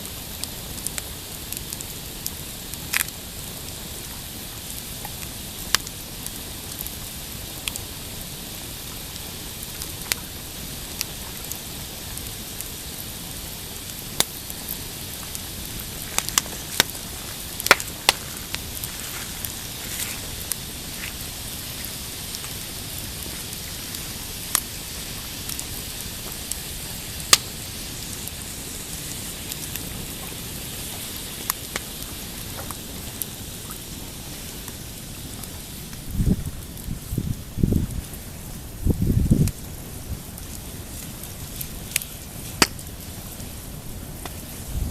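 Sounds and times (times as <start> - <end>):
campfire crackling: 0.0 - 44.9
burning wood popping: 0.1 - 44.9.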